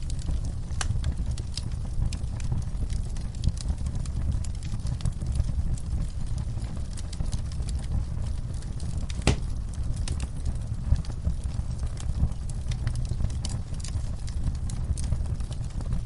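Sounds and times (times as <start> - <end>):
fire popping and snapping: 0.0 - 16.0
wood fire crackling: 0.0 - 16.0.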